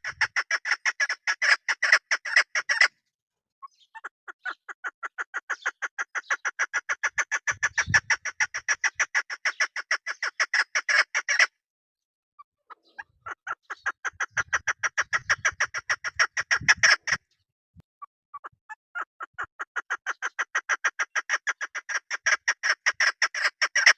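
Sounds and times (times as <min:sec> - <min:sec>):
partridge clucking call: 0:00.0 - 0:03.0, 0:03.7 - 0:11.5, 0:12.6 - 0:17.3, 0:18.4 - 0:23.9.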